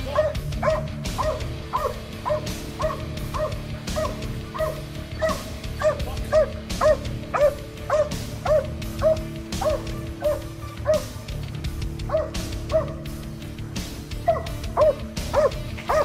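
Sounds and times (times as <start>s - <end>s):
background music: 0.0s - 16.0s
dog barking: 0.1s - 11.1s, 12.1s - 13.0s, 14.2s - 16.0s.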